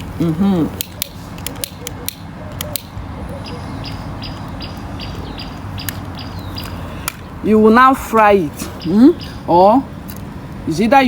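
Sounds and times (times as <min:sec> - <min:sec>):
steady low rumble: 0:00.0 - 0:10.7
small bird chirping: 0:00.2 - 0:07.5, 0:08.3 - 0:09.9.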